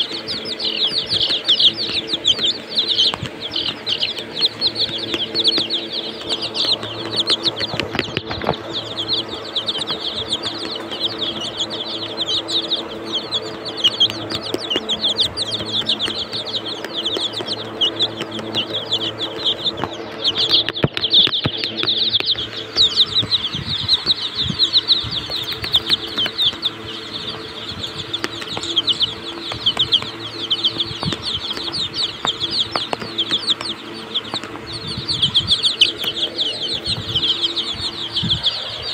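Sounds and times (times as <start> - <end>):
chicks peeping: 0.0 - 38.9
sharp clicks: 0.0 - 38.9
steady low hum: 0.0 - 38.9.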